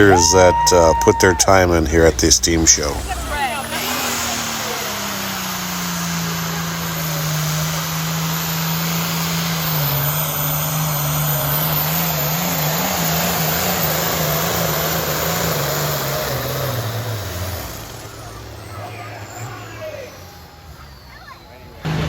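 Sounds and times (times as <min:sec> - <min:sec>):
diesel engine at high revs: 0:00.0 - 0:22.0.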